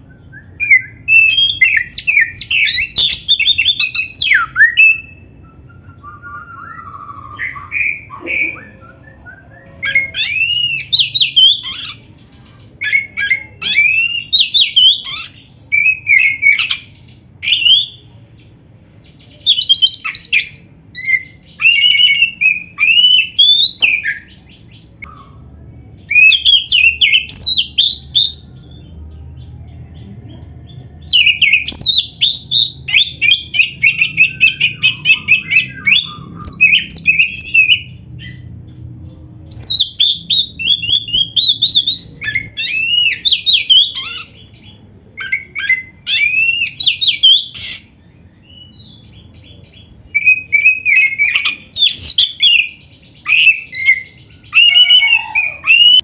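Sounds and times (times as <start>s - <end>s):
bird singing whistles and warbles: 0.0s - 18.1s, 19.1s - 56.0s.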